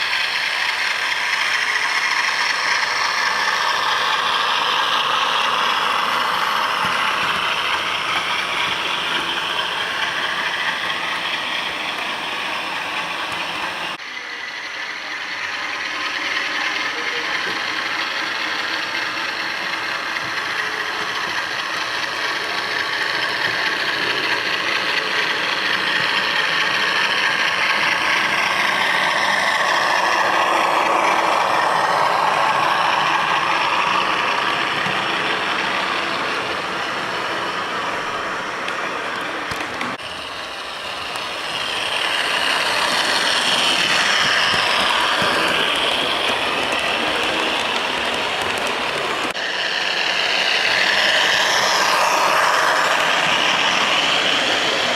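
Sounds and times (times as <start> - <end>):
diesel engine sound from small speaker: 0.0 - 54.9.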